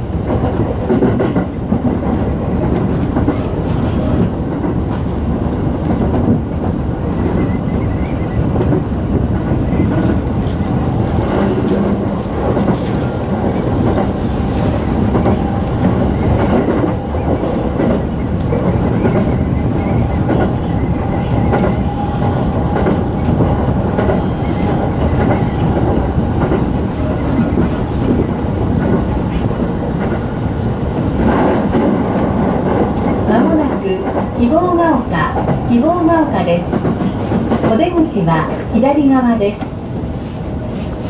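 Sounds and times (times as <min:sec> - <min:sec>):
rail joint clicks: 0:00.0 - 0:41.0
train wheels rumbling on rail: 0:00.0 - 0:41.0.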